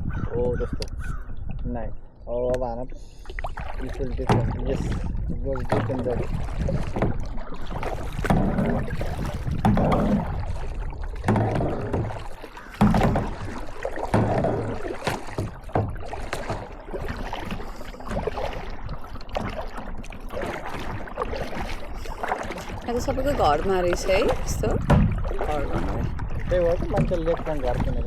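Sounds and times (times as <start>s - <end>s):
kayak paddle strokes in water: 3.2s - 28.0s.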